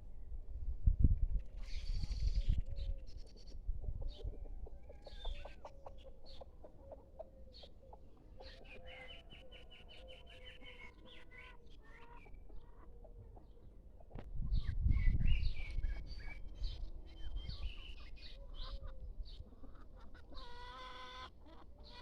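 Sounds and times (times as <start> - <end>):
bird clucking calls: 3.2 - 14.2, 15.0 - 22.0.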